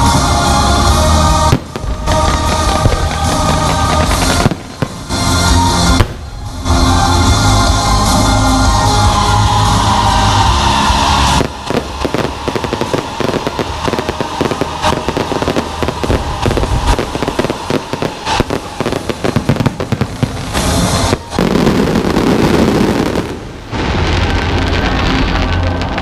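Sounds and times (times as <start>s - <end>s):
fireworks crackling and popping: 0.0s - 8.0s, 9.5s - 26.0s.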